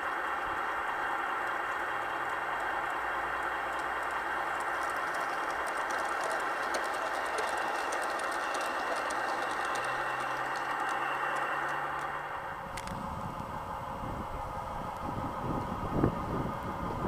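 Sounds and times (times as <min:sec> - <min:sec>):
model train whirring rumble: 0:00.0 - 0:17.0
wheels clicking over rail joints: 0:00.0 - 0:17.0.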